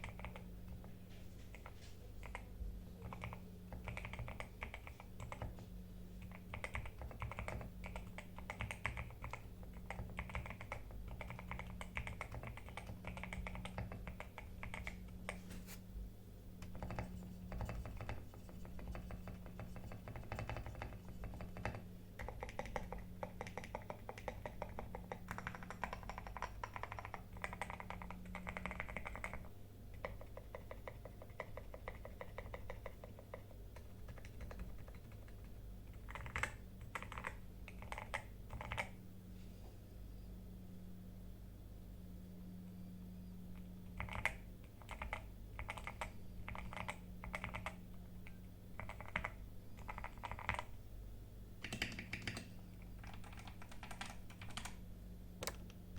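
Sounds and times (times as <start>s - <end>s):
mechanical keyboard typing: 0.0s - 0.9s, 1.5s - 5.6s, 6.2s - 15.4s, 16.6s - 39.0s, 43.6s - 50.8s, 51.6s - 54.8s, 55.4s - 55.8s.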